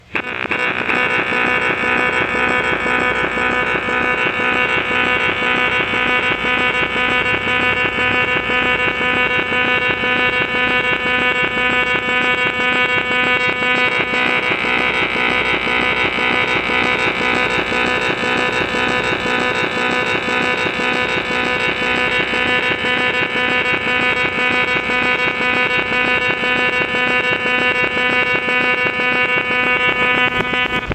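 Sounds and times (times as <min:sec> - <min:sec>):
pulsing electronic alarm tone: 0:00.1 - 0:30.9.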